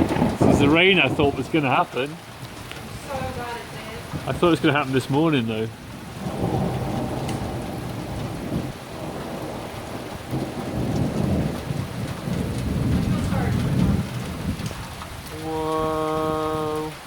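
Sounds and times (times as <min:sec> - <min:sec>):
heavy rain falling: 0:00.0 - 0:17.0
thunder rumbling: 0:00.0 - 0:17.0.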